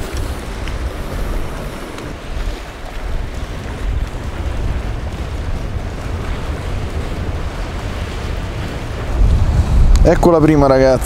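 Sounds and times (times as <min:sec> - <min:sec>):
sea waves: 0:00.0 - 0:11.0
wind buffeting microphone: 0:00.0 - 0:11.0.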